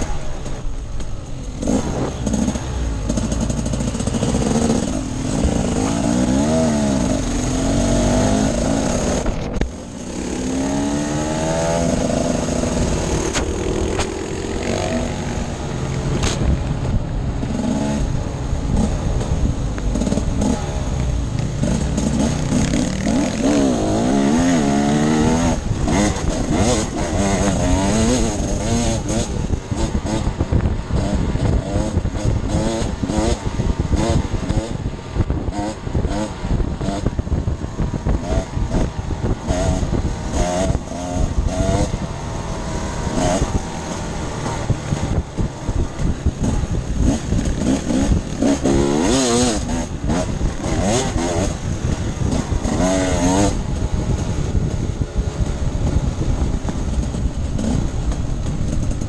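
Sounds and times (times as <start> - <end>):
dirt bike engine revving: 1.6 - 16.6, 17.4 - 59.0.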